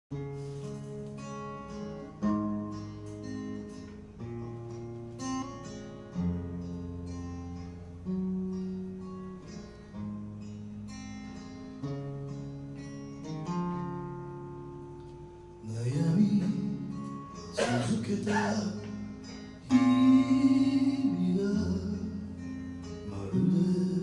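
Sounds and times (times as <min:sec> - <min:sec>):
acoustic guitar strummed chords: 0:00.1 - 0:24.0.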